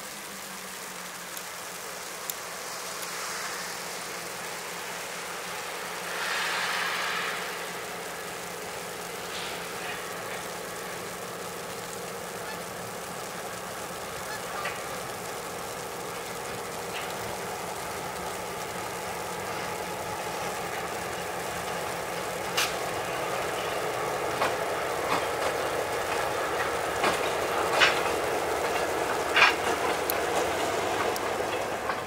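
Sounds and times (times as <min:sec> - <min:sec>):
diesel locomotive engine running: 0:00.0 - 0:32.0.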